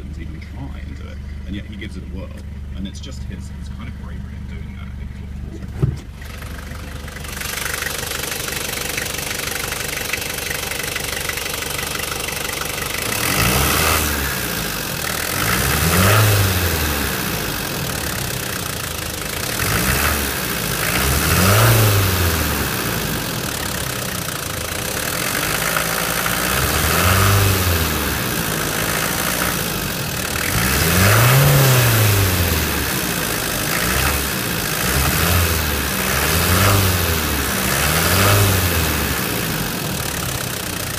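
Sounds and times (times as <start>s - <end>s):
diesel engine idling and revving: 0.0s - 40.9s.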